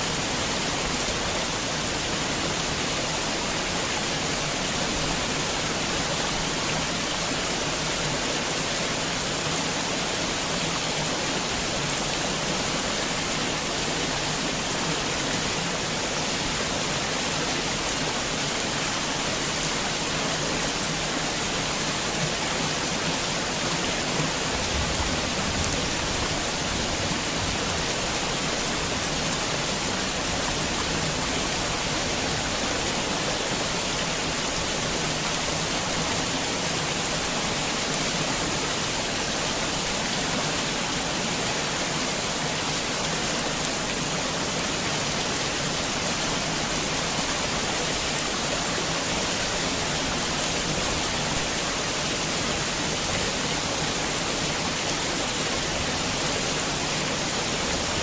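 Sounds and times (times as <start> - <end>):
heavy rain falling: 9.7 - 58.0.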